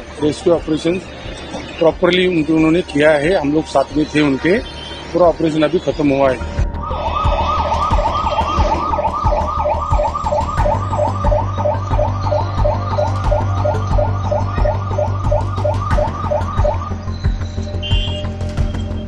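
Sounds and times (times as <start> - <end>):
siren yelping: 0.1 - 19.0.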